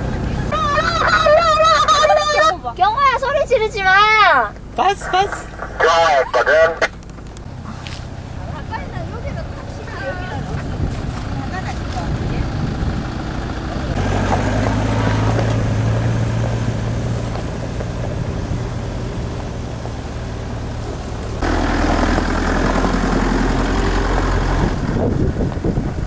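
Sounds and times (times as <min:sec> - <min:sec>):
suv engines droning: 0:00.0 - 0:26.0.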